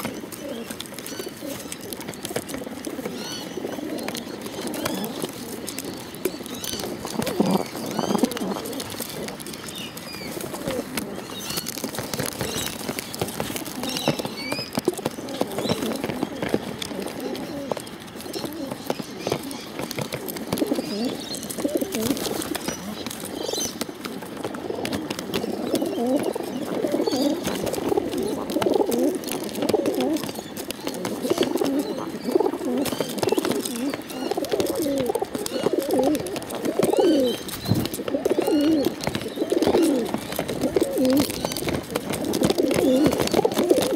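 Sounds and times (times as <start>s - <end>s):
pigeons cooing: 0.0s - 43.9s
pigeons pecking seed in plastic bottle: 0.0s - 43.9s.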